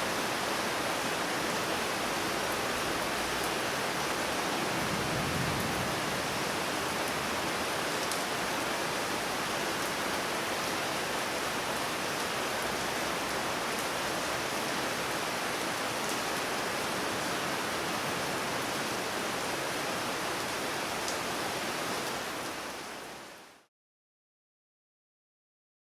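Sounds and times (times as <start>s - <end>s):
gentle rain: 0.0s - 23.7s.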